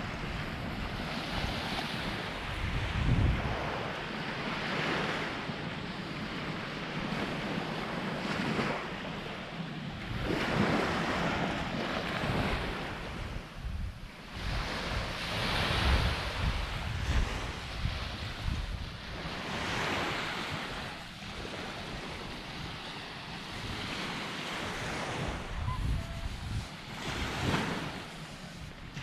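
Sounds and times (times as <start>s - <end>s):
waves washing on a beach: 0.0s - 29.0s
wind buffeting microphone: 0.0s - 29.0s.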